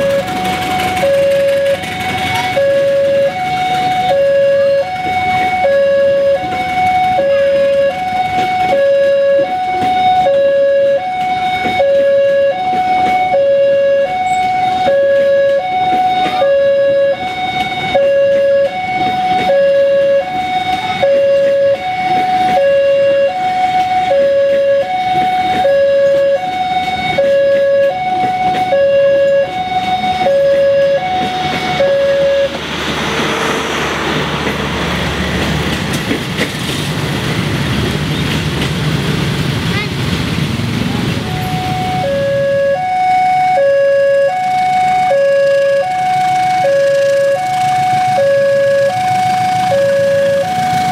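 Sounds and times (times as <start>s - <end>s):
level-crossing alarm two-note tone: 0.0s - 32.7s, 41.2s - 50.9s
motorcycle engines: 0.0s - 50.9s
passing train rumble: 0.0s - 50.9s
traffic noise: 0.0s - 50.9s.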